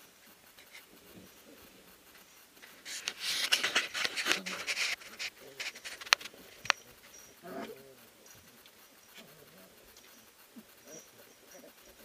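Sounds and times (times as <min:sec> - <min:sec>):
puppies scrambling in wood shavings: 0:02.2 - 0:12.0.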